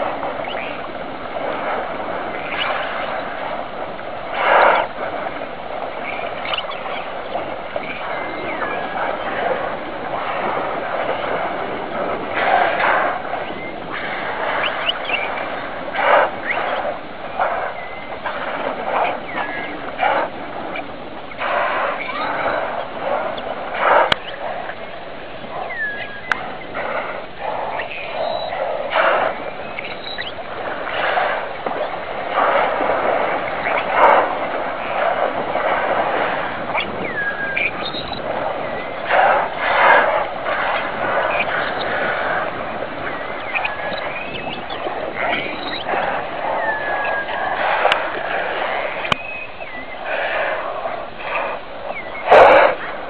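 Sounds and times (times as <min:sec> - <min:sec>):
dolphins surfacing splashes: 0:00.0 - 0:53.0
water lapping at sea surface: 0:00.0 - 0:53.0.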